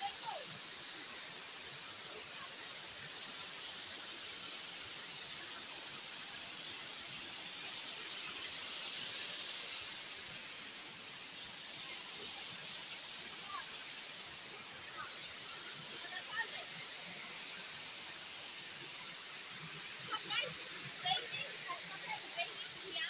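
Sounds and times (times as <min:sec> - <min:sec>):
waterfall pouring into a pool: 0:00.0 - 0:23.0.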